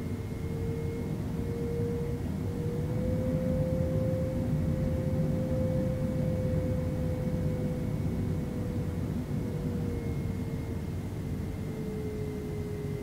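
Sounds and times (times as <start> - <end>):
jet engine rumble: 0.0 - 13.0
jet engine whine: 0.0 - 13.0.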